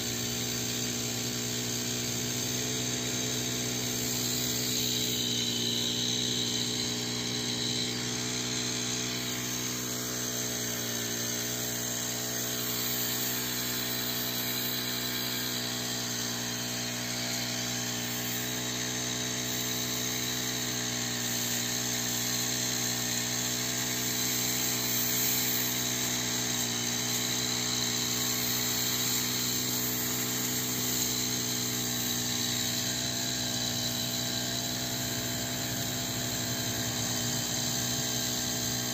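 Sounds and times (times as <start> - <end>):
sprayer pump motor running: 0.0 - 38.9.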